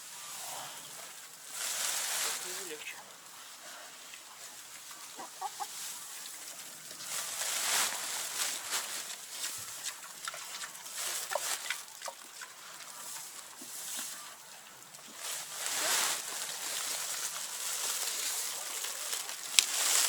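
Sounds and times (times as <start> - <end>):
straw rustling: 0.0 - 20.0.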